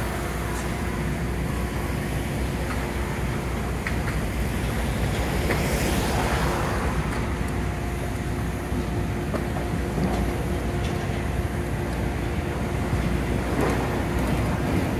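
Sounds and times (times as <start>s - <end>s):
broad rush of noise: 0.0s - 14.9s
diesel engine rumble: 0.0s - 14.9s.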